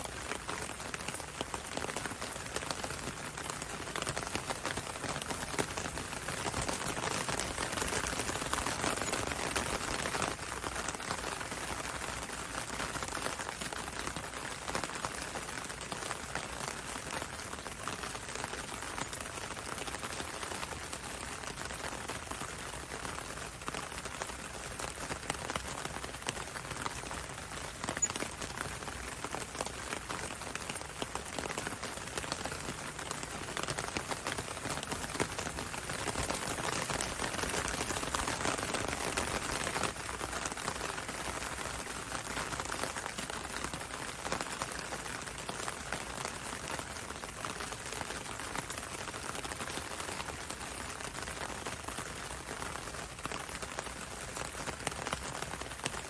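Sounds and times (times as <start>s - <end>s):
rain hissing on a road: 0.0s - 56.0s
raindrops ticking on a window: 0.0s - 56.0s.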